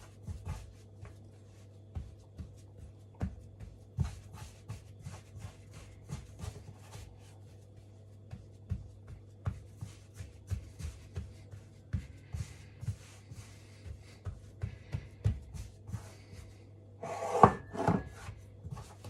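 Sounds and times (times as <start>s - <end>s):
hands kneading dough: 0.0s - 19.0s
steady low hum: 0.0s - 19.0s.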